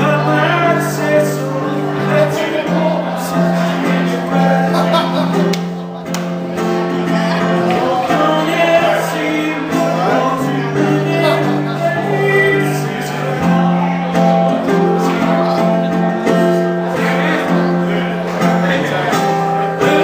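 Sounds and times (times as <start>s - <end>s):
man singing: 0.0s - 5.6s, 7.0s - 20.0s
acoustic guitar strumming: 0.0s - 20.0s.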